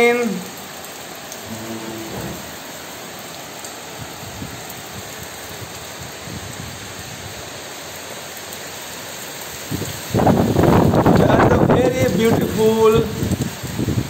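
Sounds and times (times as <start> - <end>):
rain falling on trees and paving: 0.0 - 14.0.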